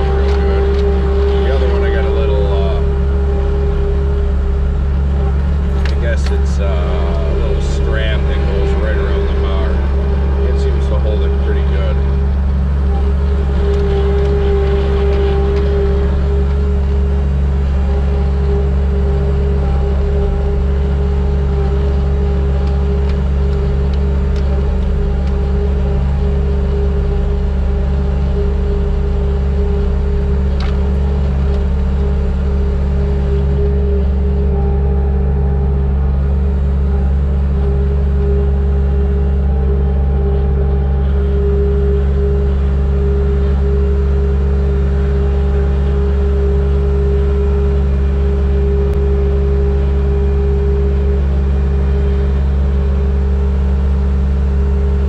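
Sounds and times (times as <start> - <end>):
engine droning: 0.0 - 55.0
high engine whine: 0.0 - 55.0.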